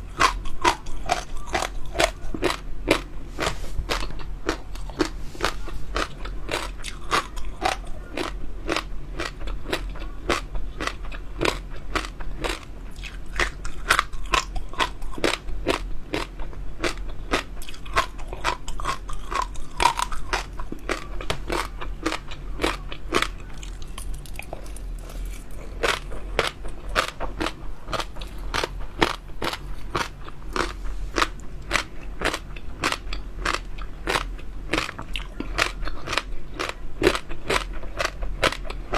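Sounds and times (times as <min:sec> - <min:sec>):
crunchy chewing: 0:00.0 - 0:38.9.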